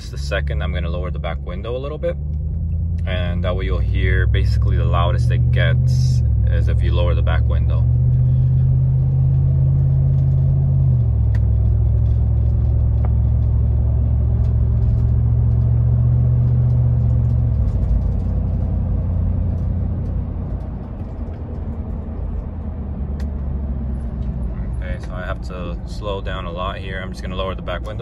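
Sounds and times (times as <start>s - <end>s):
car engine drone from cabin: 0.0s - 28.0s.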